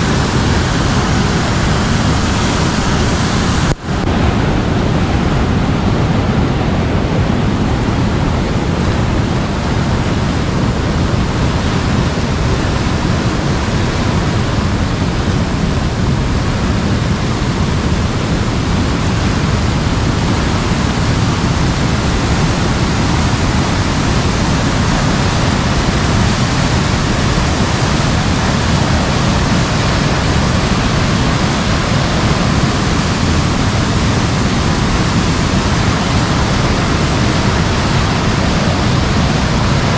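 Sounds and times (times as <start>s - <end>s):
heavy rain falling: 0.0s - 39.9s
rushing floodwater: 0.0s - 39.9s.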